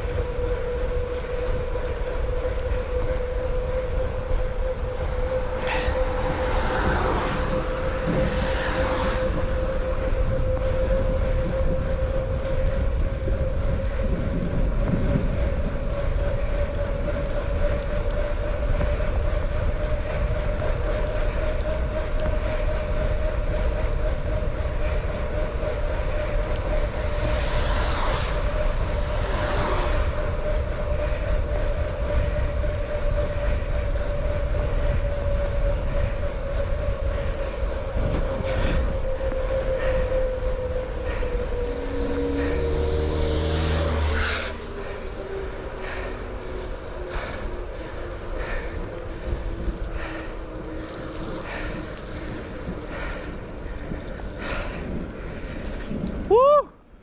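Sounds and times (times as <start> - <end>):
bicycle road noise: 0.0 - 57.0
steady whine: 0.0 - 57.0
wind noise: 0.0 - 57.0.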